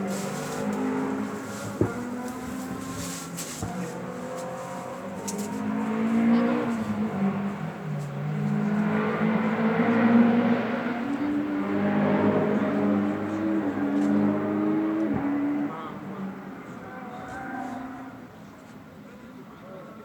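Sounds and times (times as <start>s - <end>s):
rally car engine under hard throttle: 0.0s - 18.8s.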